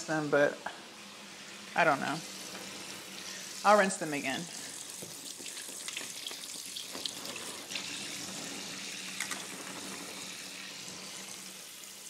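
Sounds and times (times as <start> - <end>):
kitchen tap running: 0.0 - 12.0.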